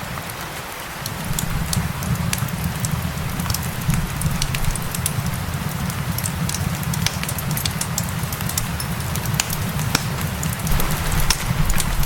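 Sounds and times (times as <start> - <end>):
rain pattering: 0.0 - 12.0
low rumble of burning wood: 0.1 - 12.0
fireplace crackling and popping: 0.2 - 12.0.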